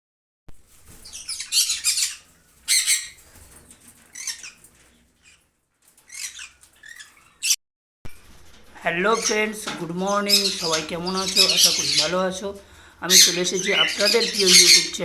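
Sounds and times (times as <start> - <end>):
parrot chicks squawking: 0.8 - 7.6, 8.5 - 15.0.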